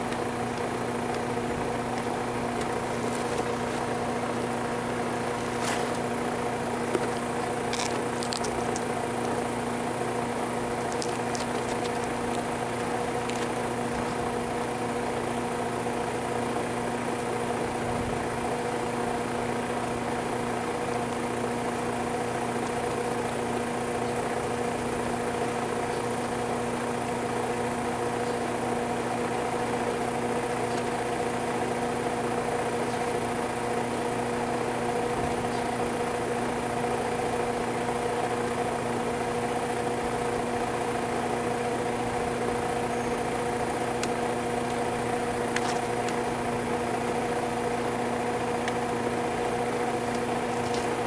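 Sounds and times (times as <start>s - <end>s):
steady machine hum: 0.0s - 51.0s.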